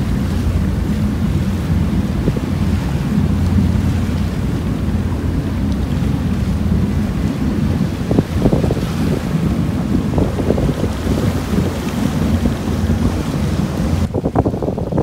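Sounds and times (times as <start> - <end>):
low ferry rumble: 0.0 - 15.0
water rushing past hull: 0.0 - 15.0
wind buffeting microphone: 0.0 - 15.0.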